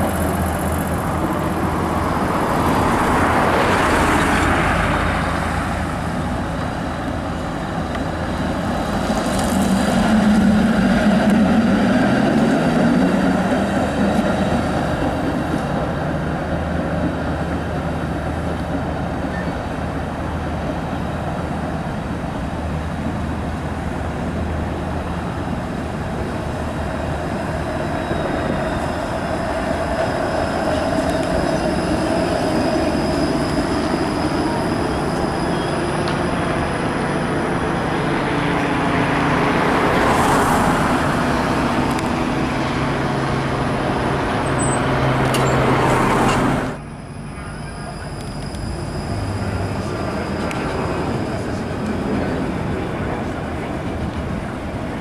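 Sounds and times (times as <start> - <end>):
street traffic noise: 0.0 - 55.0
streetcar rolling past: 0.0 - 55.0.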